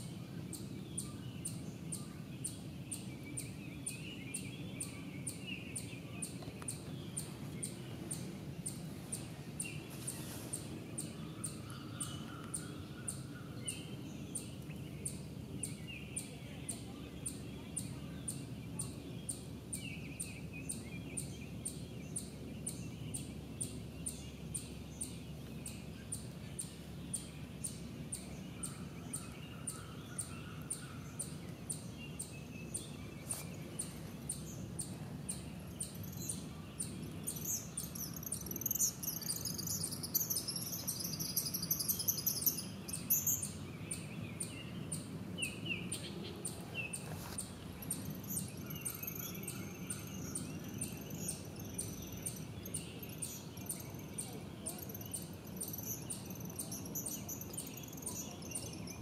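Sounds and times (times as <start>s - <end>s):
high twittering birdsong: 0.0s - 59.0s.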